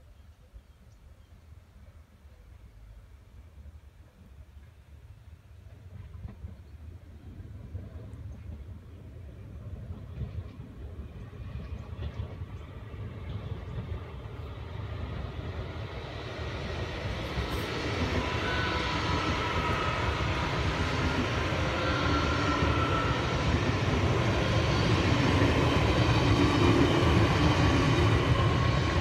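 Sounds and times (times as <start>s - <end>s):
train wheels rushing on rail: 5.5s - 29.0s.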